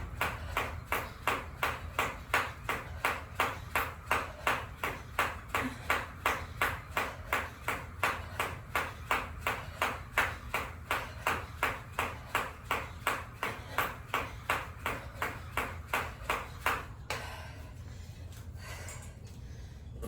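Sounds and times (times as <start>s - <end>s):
jump rope slapping the floor: 0.0s - 17.3s.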